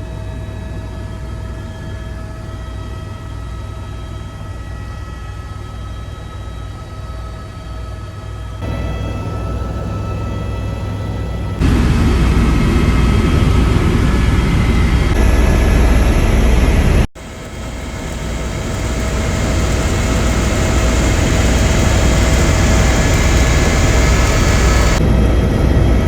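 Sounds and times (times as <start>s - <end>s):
helicopter rumble and whine: 0.0s - 26.0s.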